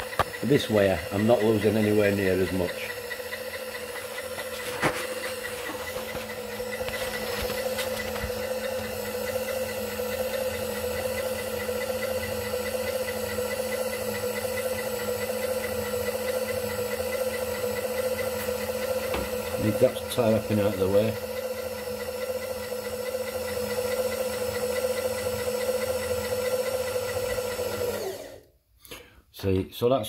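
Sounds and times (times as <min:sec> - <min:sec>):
power feed motor humming: 0:00.0 - 0:28.5.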